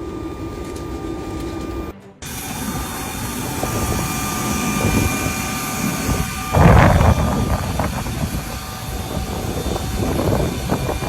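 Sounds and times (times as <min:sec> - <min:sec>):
engine with high whine: 0:00.0 - 0:11.0.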